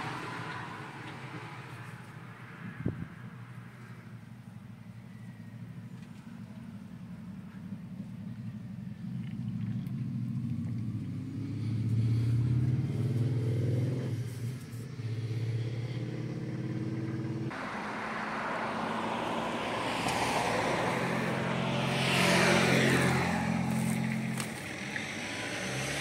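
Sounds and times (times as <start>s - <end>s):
vehicle passing close: 0.0s - 4.2s, 5.1s - 26.0s
large vehicle engine running: 0.0s - 26.0s.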